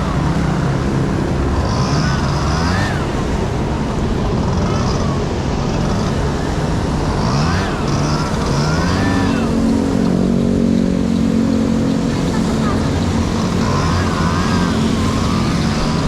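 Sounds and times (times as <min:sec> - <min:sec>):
two-stroke scooter engine revving: 0:00.0 - 0:16.0.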